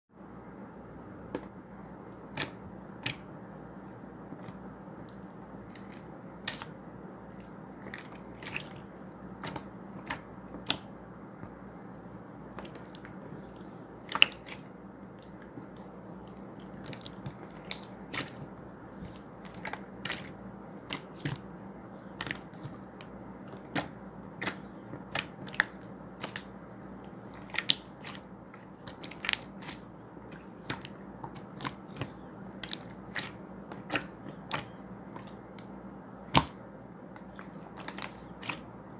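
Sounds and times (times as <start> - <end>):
slime kneaded by hand crackling: 1.3 - 11.6, 12.5 - 38.9.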